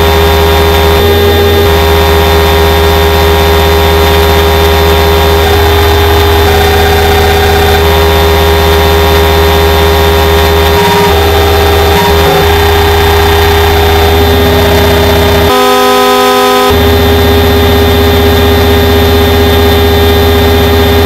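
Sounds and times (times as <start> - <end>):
high turbine and gearbox tones: 0.0 - 21.0
synthesized helicopter rotor pulsing: 0.0 - 21.0.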